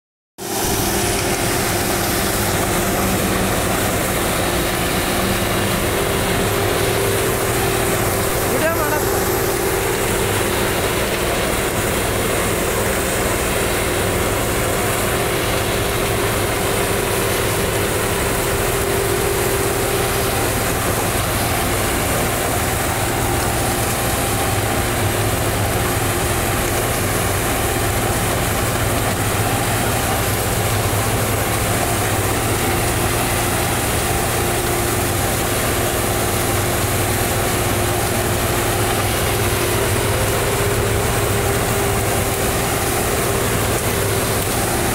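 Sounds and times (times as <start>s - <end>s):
harvester engine drone: 0.4s - 44.9s
steady hum: 0.5s - 44.9s.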